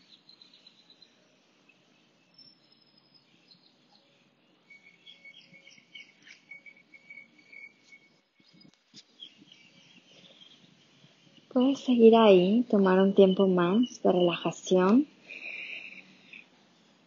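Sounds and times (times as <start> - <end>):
insects calling: 0.0 - 16.5
birds chirping: 0.0 - 17.0.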